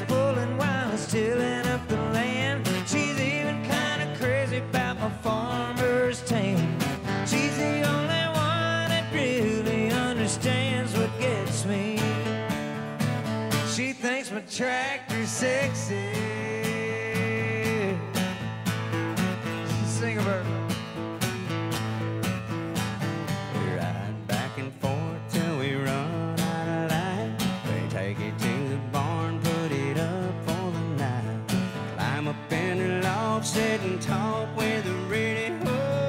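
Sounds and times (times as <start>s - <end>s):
acoustic guitars strumming: 0.0s - 36.0s.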